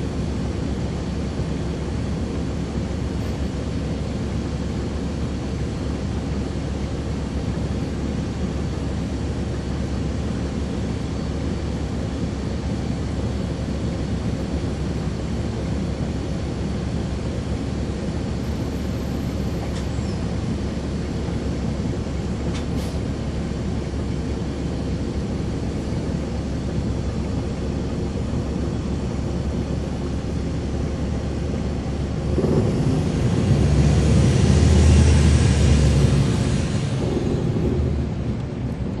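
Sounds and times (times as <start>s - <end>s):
bus diesel engine running: 0.0s - 39.0s
road noise: 0.0s - 39.0s.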